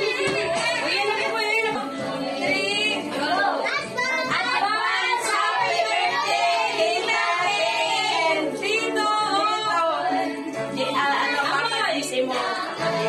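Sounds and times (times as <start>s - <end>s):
women and children singing: 0.0s - 13.0s.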